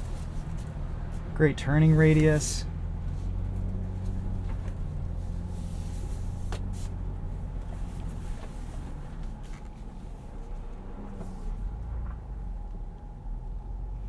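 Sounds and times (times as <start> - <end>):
car engine running at low speed: 0.0 - 14.0.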